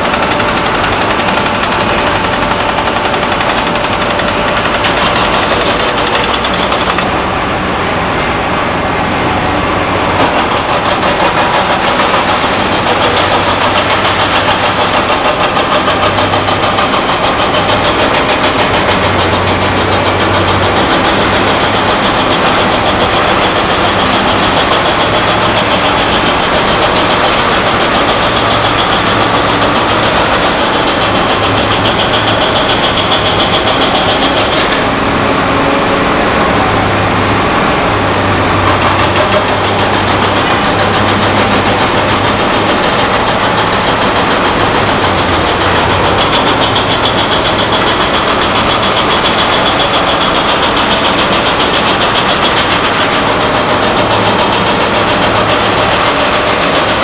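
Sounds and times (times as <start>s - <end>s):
excavator diesel engine working: 0.0s - 57.0s.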